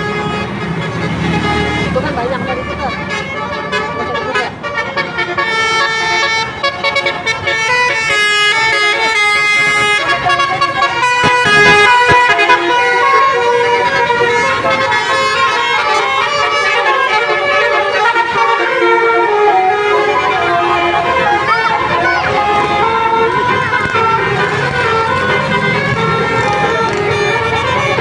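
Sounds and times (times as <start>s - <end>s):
melodic bus horn: 0.0s - 28.0s.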